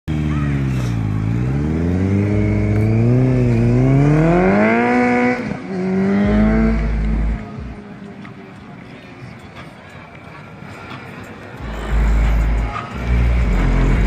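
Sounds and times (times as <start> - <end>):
motorcycle accelerating and shifting: 0.1 - 14.0.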